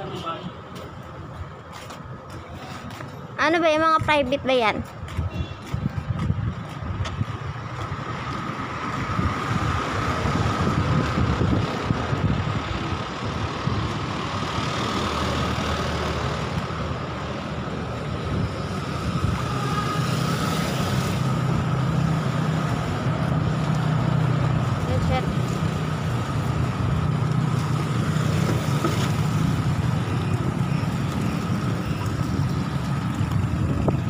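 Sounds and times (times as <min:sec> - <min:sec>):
traffic rumble of engines and tyres: 0:00.0 - 0:34.0.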